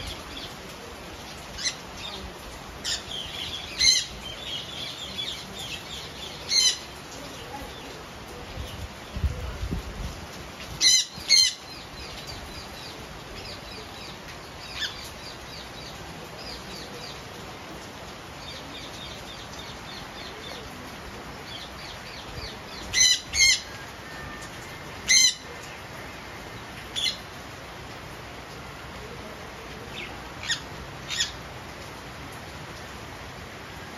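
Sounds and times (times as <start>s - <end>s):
rain hiss: 0.0s - 33.9s.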